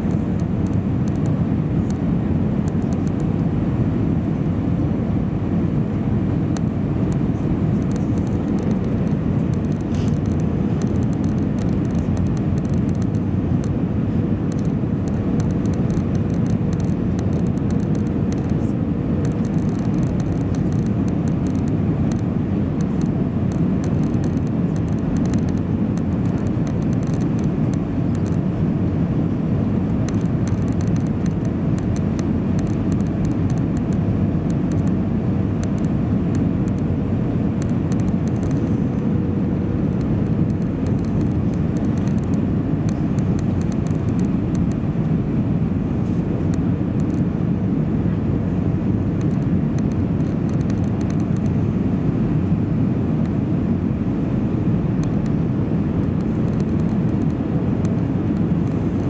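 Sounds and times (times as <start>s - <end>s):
aircraft cabin drone: 0.0s - 59.0s
faint steady whine: 0.0s - 59.0s.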